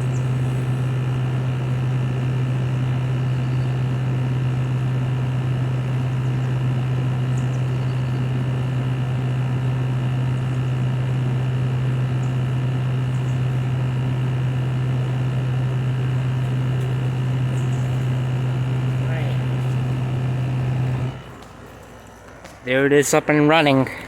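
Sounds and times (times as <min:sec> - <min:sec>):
condenser fan rushing air: 0:00.0 - 0:21.9
air conditioner compressor hum: 0:00.0 - 0:24.0.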